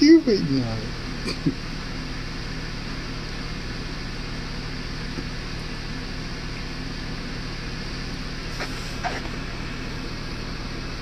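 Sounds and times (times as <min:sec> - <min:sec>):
kitchen appliance humming: 0:00.0 - 0:11.0.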